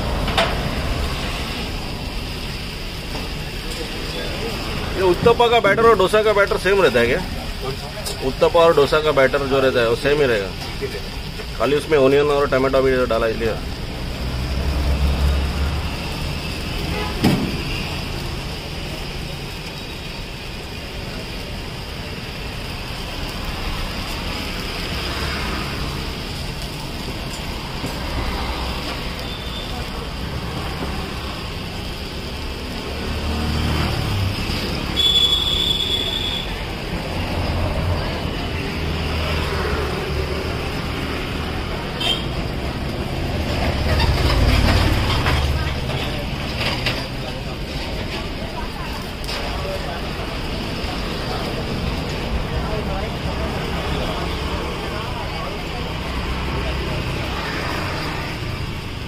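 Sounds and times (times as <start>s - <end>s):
food sizzling on a griddle: 0.0s - 59.0s
low rumble of traffic: 0.0s - 59.0s.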